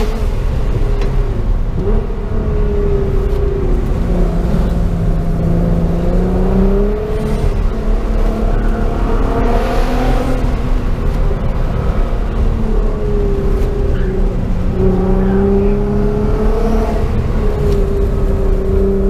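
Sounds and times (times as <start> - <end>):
car engine revving: 0.0 - 19.0
road rumble: 0.0 - 19.0.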